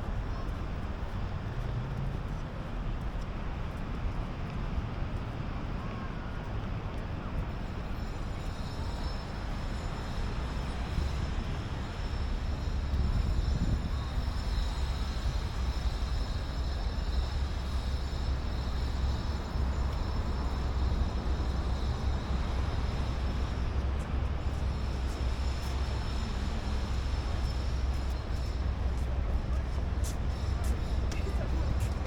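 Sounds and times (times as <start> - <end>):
deep city rumble: 0.0 - 32.0.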